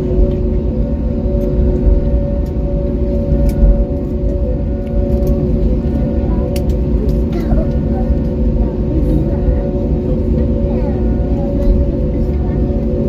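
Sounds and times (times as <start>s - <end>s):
aircraft cabin rumble: 0.0s - 13.0s
idling jet engines humming: 0.0s - 13.0s.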